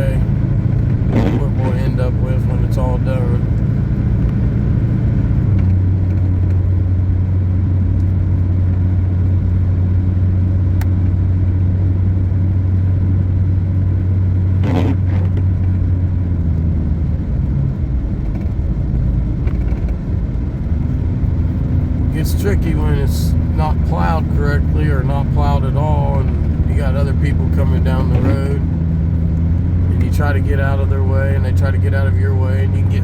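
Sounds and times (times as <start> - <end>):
vehicle engine and road drone: 0.0 - 33.0.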